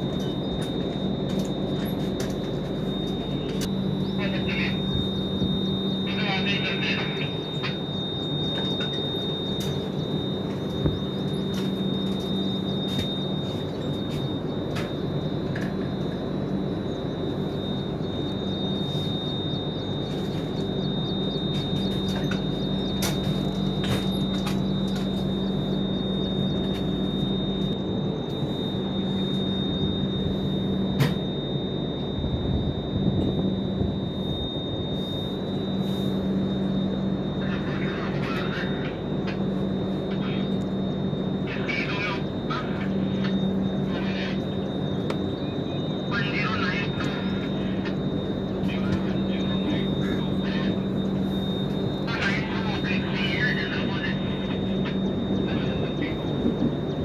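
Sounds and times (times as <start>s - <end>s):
train low hum: 0.0s - 57.0s.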